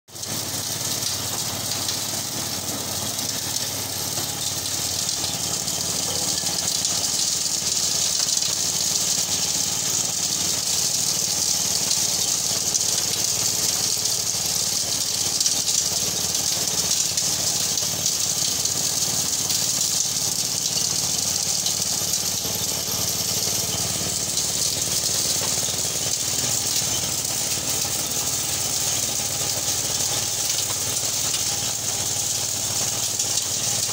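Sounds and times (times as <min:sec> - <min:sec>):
shelling drum rattling hiss: 0:00.1 - 0:33.9
small petrol engine hum: 0:00.1 - 0:33.9.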